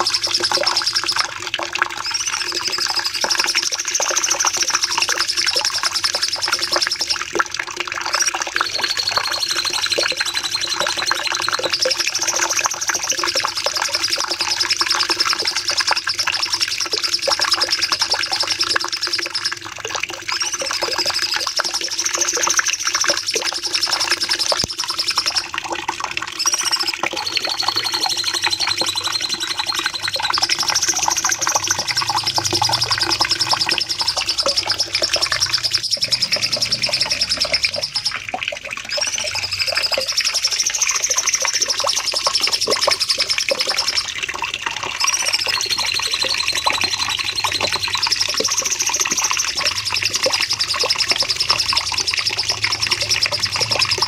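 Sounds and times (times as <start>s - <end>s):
bird singing rapid trills: 0.0s - 25.6s, 26.4s - 44.2s, 45.0s - 54.0s.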